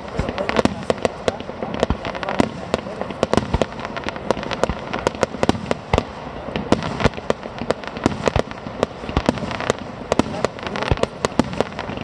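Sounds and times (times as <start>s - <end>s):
fireworks banging: 0.0s - 12.0s
fireworks crackling: 0.0s - 12.0s.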